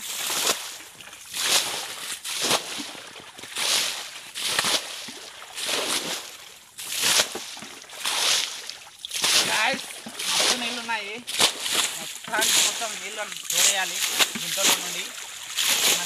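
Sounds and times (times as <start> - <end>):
water splashing from bailing: 0.0 - 16.0.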